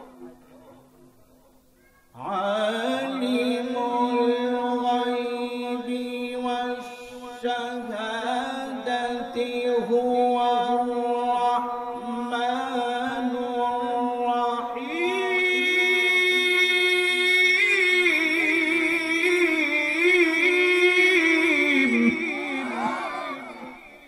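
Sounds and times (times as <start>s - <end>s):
man chanting melodic recitation: 0.0s - 24.0s.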